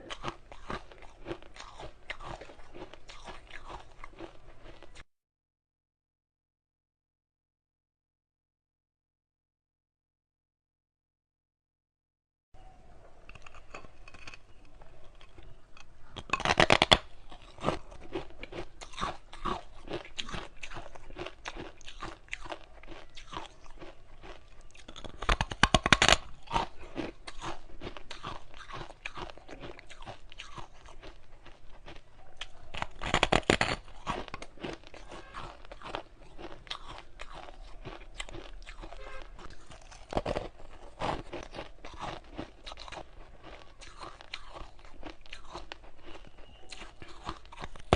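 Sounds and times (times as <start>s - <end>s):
ice chewing crackles: 0.0s - 5.1s, 13.0s - 47.9s
ice crunching bites: 0.1s - 5.0s, 13.3s - 47.9s.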